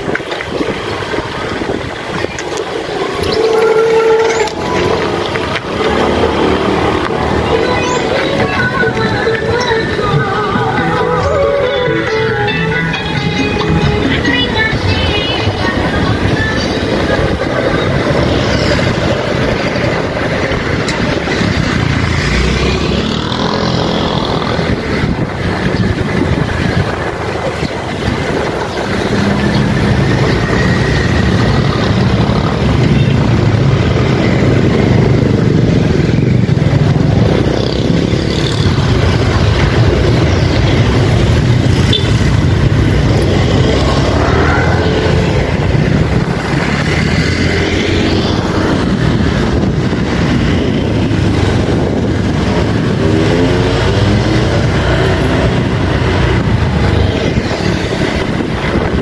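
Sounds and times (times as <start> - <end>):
motorbikes passing by: 0.0 - 59.0
motorcycle and car engines running: 0.0 - 59.0.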